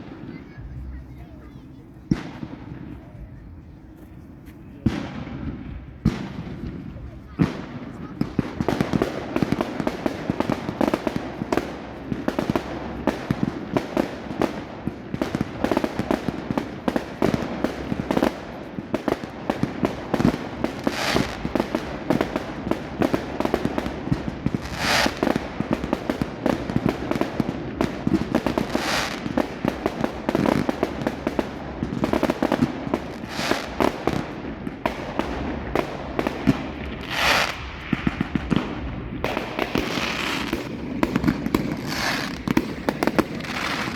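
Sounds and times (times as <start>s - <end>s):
fireworks cracking and banging: 0.0s - 43.9s.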